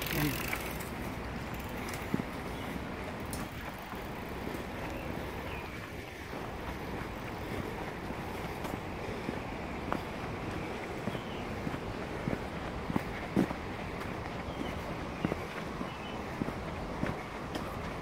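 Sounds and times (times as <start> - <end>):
footsteps on dirt path: 0.0 - 18.0.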